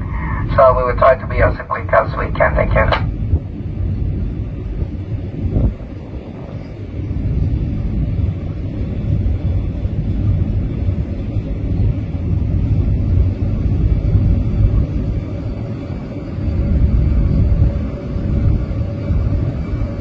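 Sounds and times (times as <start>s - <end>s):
ferry engine rumble: 0.0s - 20.0s
wind: 0.0s - 20.0s.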